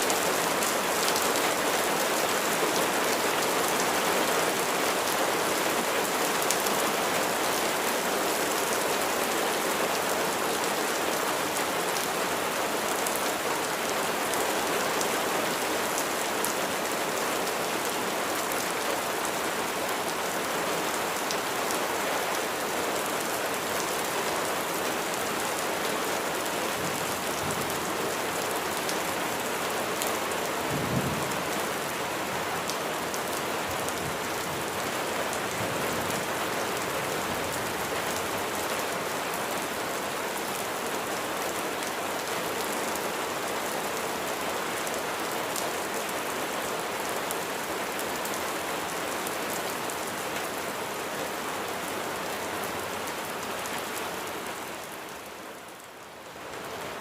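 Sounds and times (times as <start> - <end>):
heavy rain splashing: 0.0 - 55.8.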